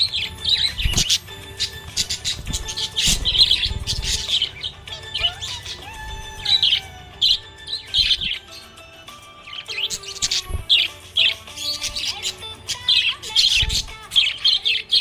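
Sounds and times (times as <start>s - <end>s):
budgerigars chirping: 0.0s - 15.0s
music playing: 0.0s - 15.0s.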